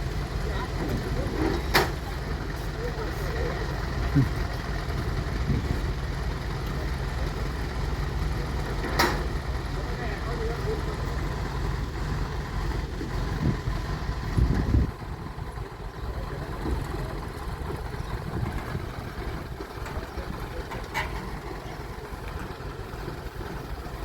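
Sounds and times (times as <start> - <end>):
threshing machine engine rumble: 0.0 - 24.0.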